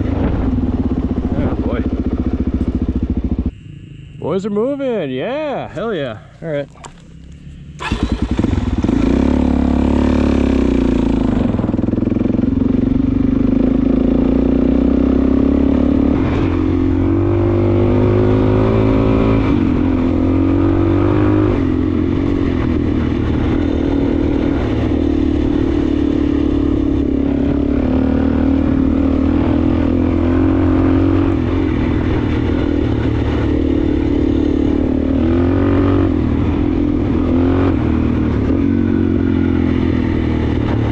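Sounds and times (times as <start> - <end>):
motorcycle engine revving: 0.0 - 6.2, 6.8 - 40.9.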